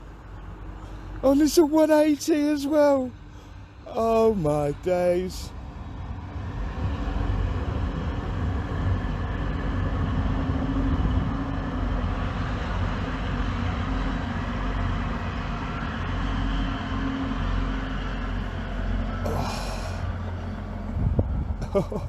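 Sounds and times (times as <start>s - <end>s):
train rumbling past: 0.0s - 21.7s
droning engine tone: 0.0s - 22.0s.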